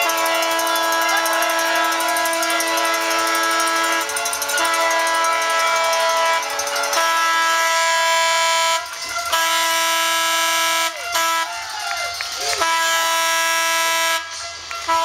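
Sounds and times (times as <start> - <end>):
handheld horn blasts: 0.0 - 15.0.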